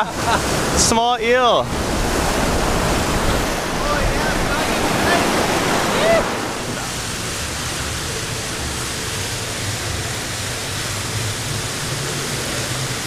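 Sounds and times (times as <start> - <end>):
water rushing underwater: 0.0 - 13.0.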